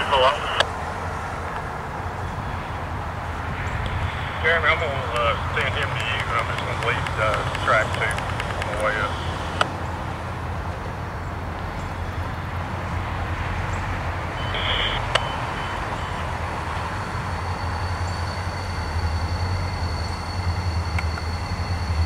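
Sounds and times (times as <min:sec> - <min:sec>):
diesel locomotive rumble: 0:00.0 - 0:22.0.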